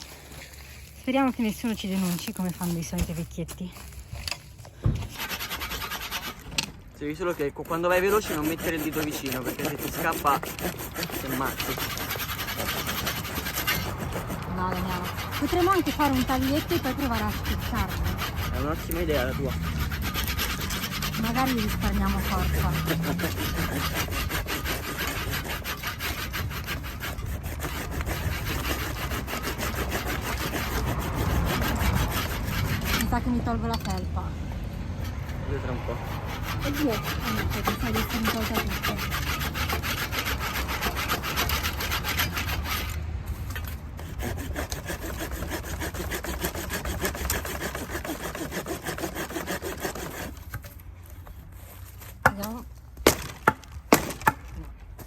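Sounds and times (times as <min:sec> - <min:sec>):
hand saw cutting wood: 0:05.0 - 0:34.2, 0:34.9 - 0:55.0.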